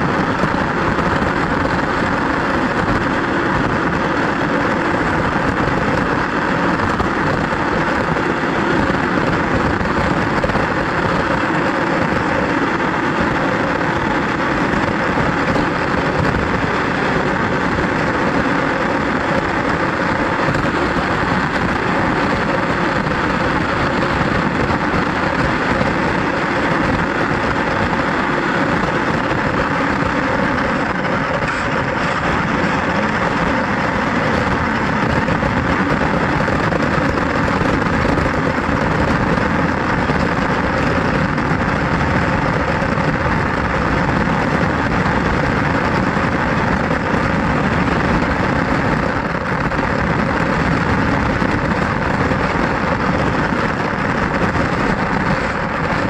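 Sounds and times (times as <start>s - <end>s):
toy car road noise: 0.0s - 56.0s.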